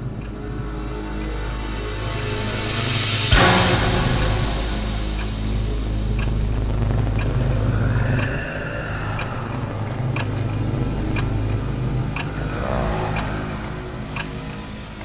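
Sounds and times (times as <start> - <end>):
low rumbling drone: 0.0 - 15.0
clock-like ticks: 2.1 - 15.0.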